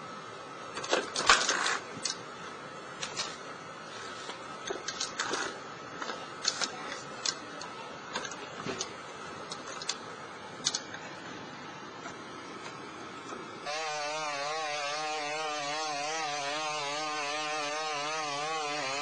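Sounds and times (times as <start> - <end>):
faint whine: 0.0 - 19.0.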